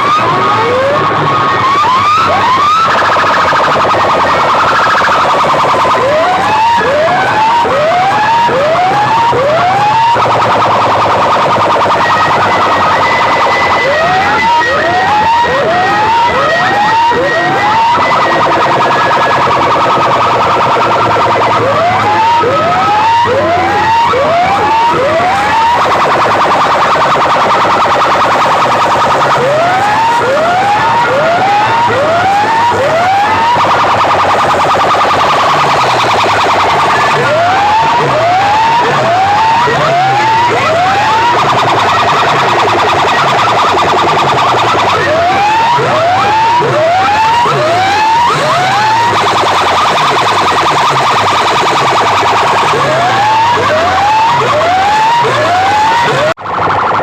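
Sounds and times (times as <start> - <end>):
electronic siren whoops: 0.0 - 57.0.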